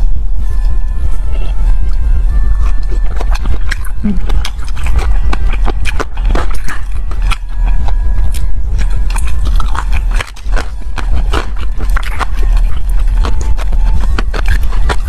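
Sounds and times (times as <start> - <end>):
low steady hum: 0.0 - 15.0
chewing and biting chicken feet: 1.3 - 15.0.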